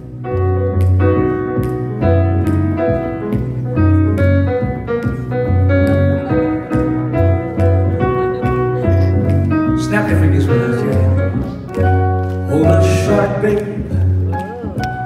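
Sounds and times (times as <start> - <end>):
grand piano chords and melody: 0.0 - 15.0
upright double bass: 0.0 - 15.0.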